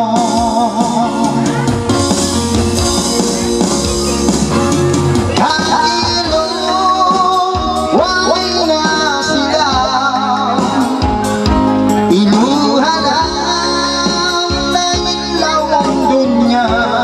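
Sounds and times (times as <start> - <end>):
man singing through microphone: 0.0 - 2.1, 5.2 - 17.0
electronic keyboard: 0.0 - 17.0
steady drum beat: 0.0 - 17.0.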